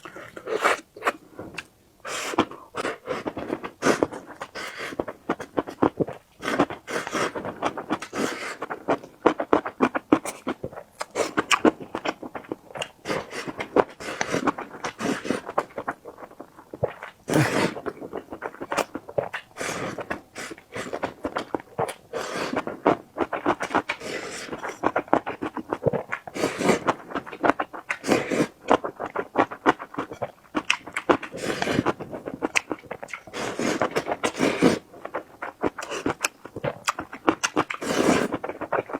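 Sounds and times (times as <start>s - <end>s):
wet chewing and mouth smacks: 0.0s - 38.9s.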